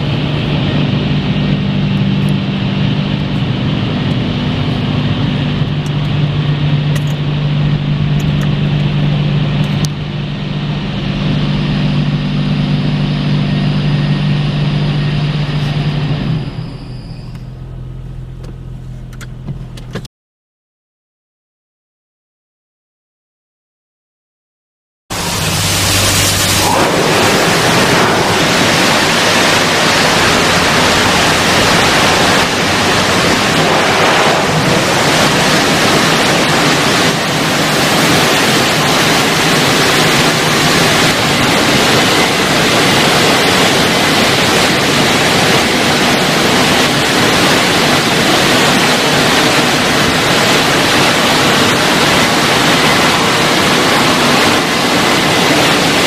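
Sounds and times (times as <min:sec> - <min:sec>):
car wash dryer blowing air: 0:00.0 - 0:20.1, 0:25.1 - 0:56.0.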